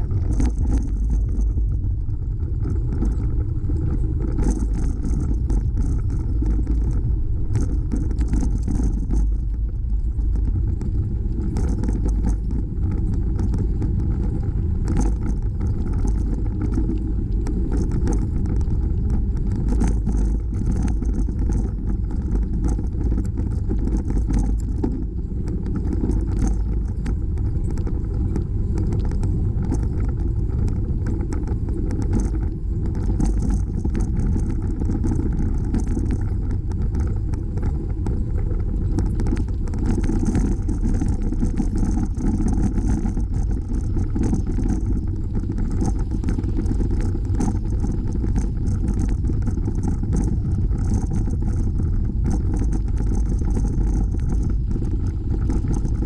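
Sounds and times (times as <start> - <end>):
bicycle rattles and knocks: 0.0 - 56.0
wind buffeting microphone: 0.0 - 56.0.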